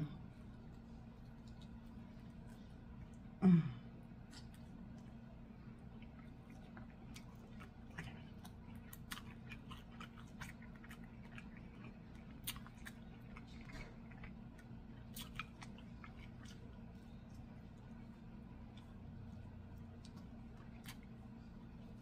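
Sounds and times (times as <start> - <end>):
person chewing food: 0.0 - 3.4, 4.1 - 22.0
steady low hum: 0.0 - 22.0.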